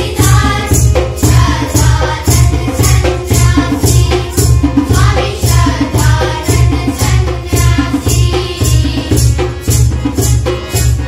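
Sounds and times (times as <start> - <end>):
children singing in unison: 0.0 - 10.9
backing track: 0.0 - 11.0
jingling percussion beat: 0.0 - 11.0.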